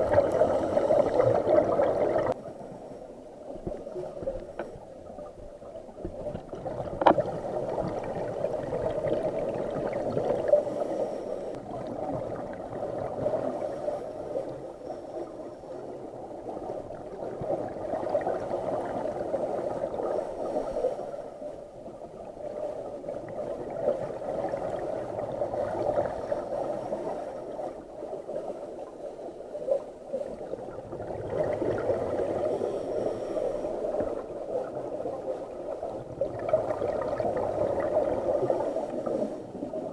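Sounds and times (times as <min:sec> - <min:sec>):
regulator bubbles gurgling underwater: 0:00.0 - 0:39.9.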